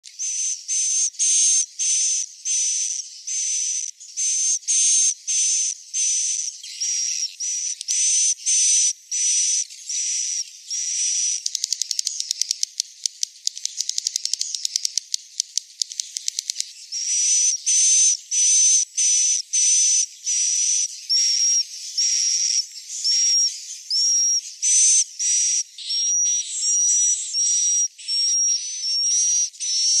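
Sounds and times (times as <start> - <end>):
buzzy high-pitched chirping calls: 0.0 - 30.0.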